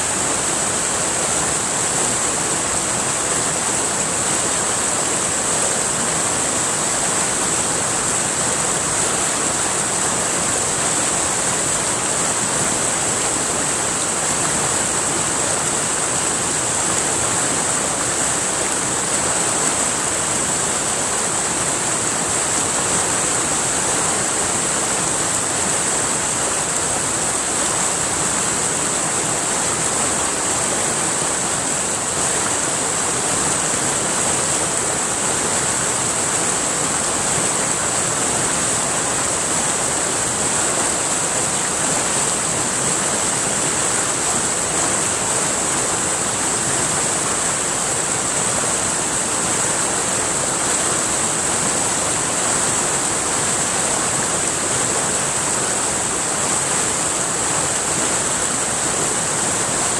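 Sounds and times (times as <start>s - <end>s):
river water flowing and splashing: 0.0s - 59.9s.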